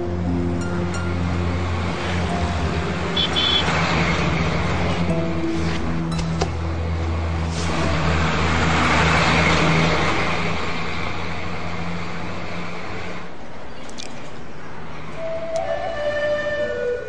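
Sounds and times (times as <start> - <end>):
low engine hum: 0.0 - 17.0
road vehicle passing: 0.0 - 17.0.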